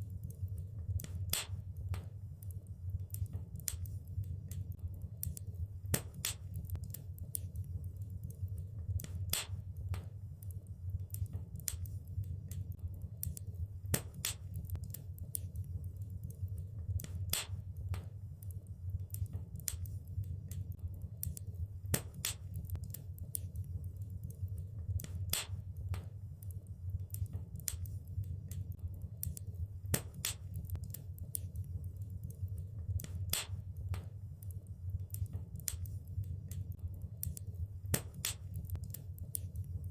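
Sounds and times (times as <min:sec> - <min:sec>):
low rumble of flame: 0:00.0 - 0:39.9
wood crackling and popping: 0:00.2 - 0:39.9.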